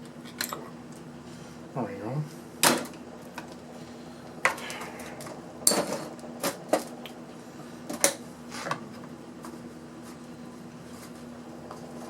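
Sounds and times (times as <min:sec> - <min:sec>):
low hum: 0:00.9 - 0:12.0.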